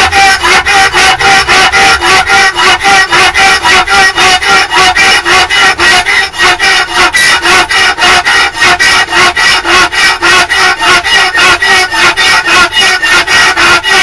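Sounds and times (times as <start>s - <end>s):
hand tool rasping metal: 0.0s - 14.0s.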